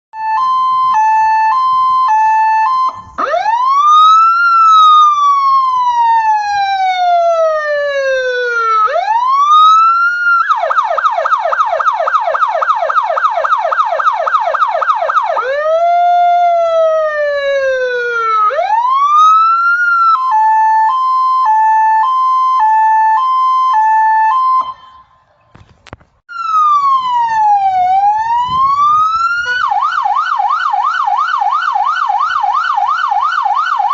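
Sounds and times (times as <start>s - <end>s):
fire engine siren: 0.1s - 25.2s, 26.3s - 33.9s.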